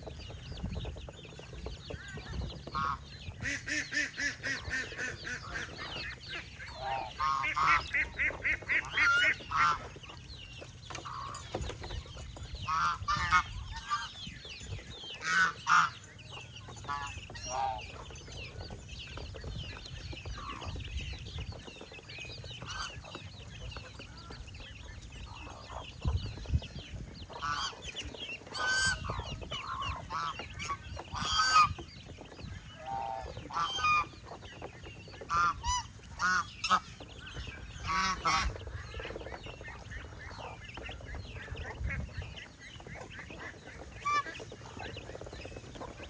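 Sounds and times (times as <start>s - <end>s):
flock of geese calling softly: 0.0s - 46.0s
geese honking: 2.0s - 14.2s, 15.2s - 19.3s, 21.8s - 26.2s, 26.8s - 46.0s.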